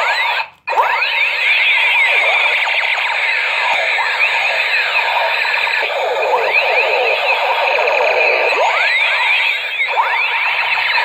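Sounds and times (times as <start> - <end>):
electronic toy gun zaps: 0.0 - 11.0.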